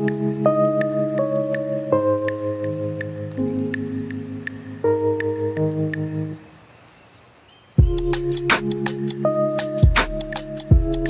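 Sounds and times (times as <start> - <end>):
held chords: 0.0 - 6.6, 7.8 - 11.0
light ticking beat: 0.0 - 6.6, 7.8 - 11.0.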